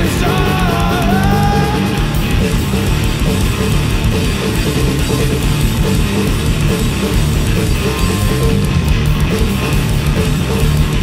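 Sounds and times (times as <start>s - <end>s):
distorted electric guitar: 0.0s - 11.0s
drum kit and cymbals: 0.0s - 11.0s.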